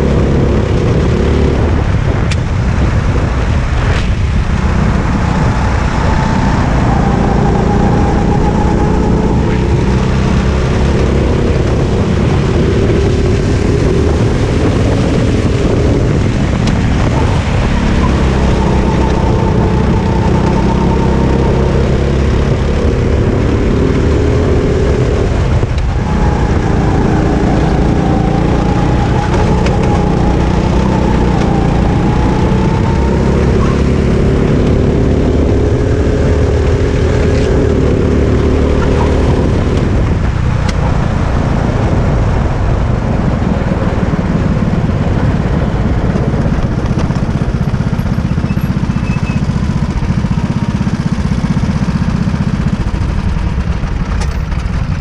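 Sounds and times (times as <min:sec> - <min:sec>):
kart engine running: 0:00.0 - 0:55.0.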